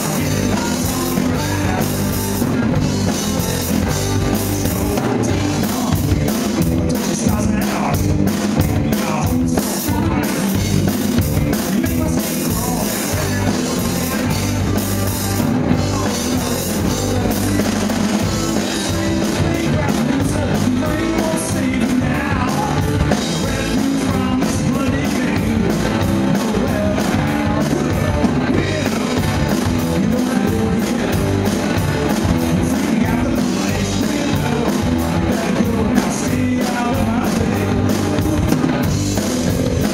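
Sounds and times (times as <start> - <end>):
drum kit: 0.0 - 39.9
electric guitars: 0.0 - 39.9
person singing: 0.0 - 39.9.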